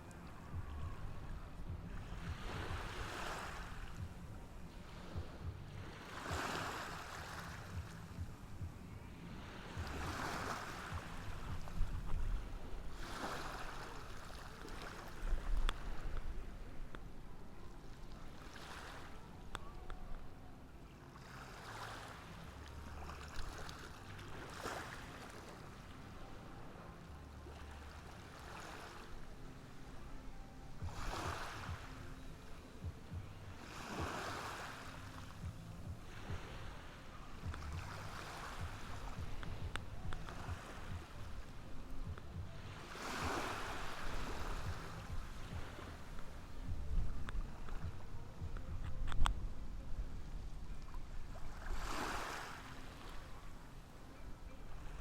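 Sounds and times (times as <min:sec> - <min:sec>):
low rumble of surf: 0:00.0 - 0:55.0
small waves washing onto shore: 0:00.0 - 0:55.0.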